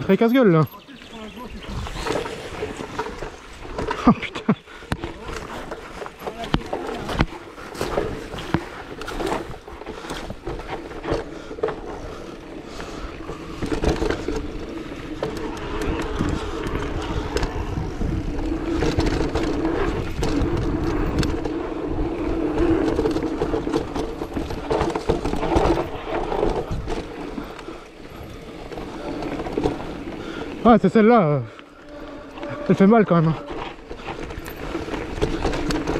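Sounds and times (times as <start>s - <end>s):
bike knocking and rattling: 0.0s - 35.9s
bike tyres rolling over dirt: 0.0s - 35.9s.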